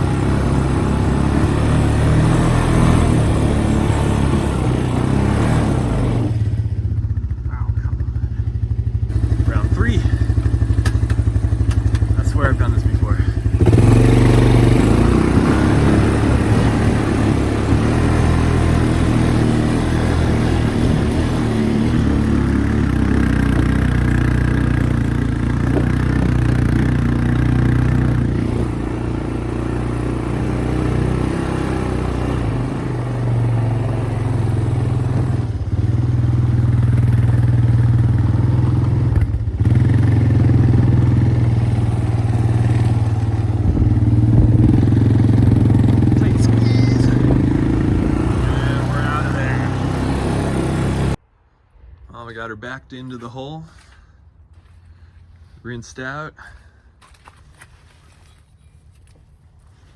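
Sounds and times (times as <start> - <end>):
atv engine running: 0.0 - 51.2.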